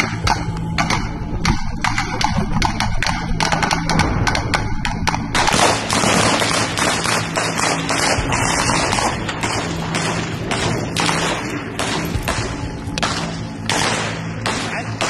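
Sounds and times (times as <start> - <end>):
loud rushing noise: 0.0 - 15.0
low hum: 0.0 - 15.0.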